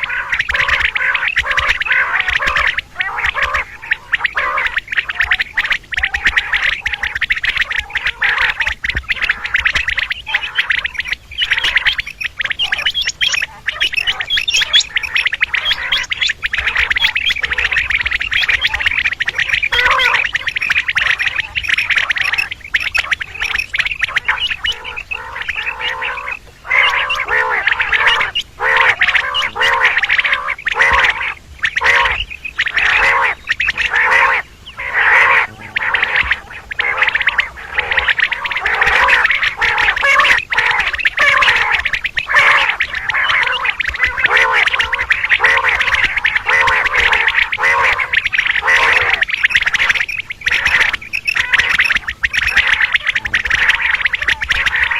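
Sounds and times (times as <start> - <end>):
quail calling chorus: 0.0 - 54.9.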